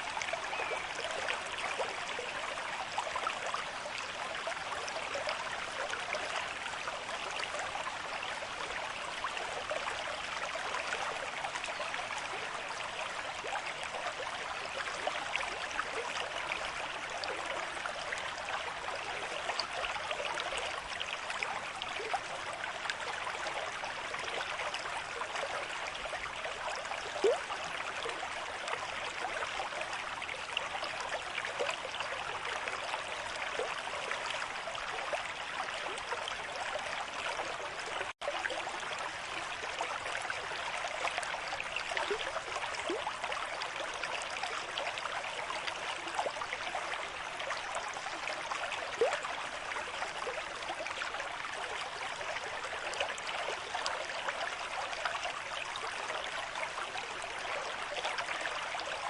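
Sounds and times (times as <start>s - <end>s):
water gurgles: 0.0s - 59.0s.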